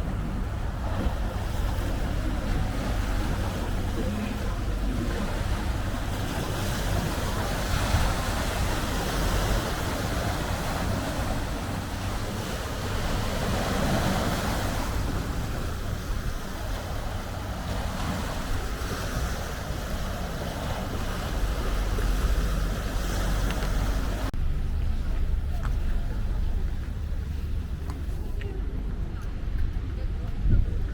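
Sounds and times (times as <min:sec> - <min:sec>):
waves washing on rocky shore: 0:00.0 - 0:29.6
wind buffeting microphone: 0:00.0 - 0:30.9.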